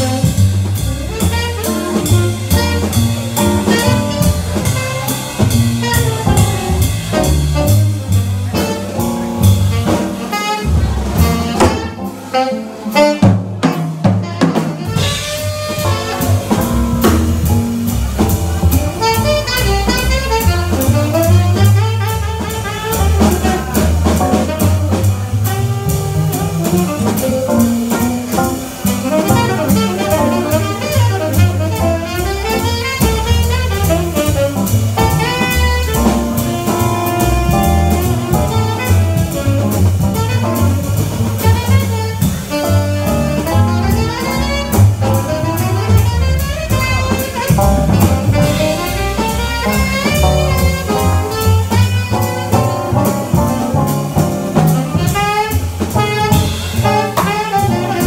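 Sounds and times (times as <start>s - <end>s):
drum kit: 0.0s - 58.0s
tenor saxophone solo: 0.0s - 58.0s
walking double bass: 0.0s - 58.0s.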